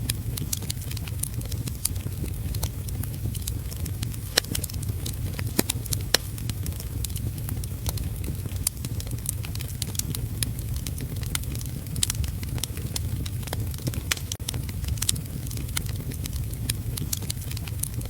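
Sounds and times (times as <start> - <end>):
heavy rain rumble: 0.0 - 18.0
wood fire crackling and popping: 0.0 - 18.0.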